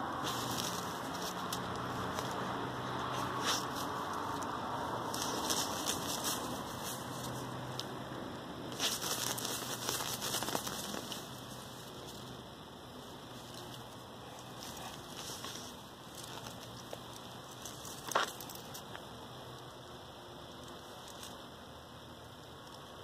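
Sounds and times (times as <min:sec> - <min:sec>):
dry grass rustling and crackling: 0:00.0 - 0:21.7.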